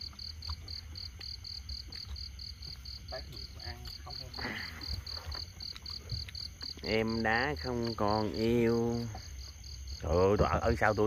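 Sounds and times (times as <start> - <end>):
night insects chirping: 0.0 - 11.0.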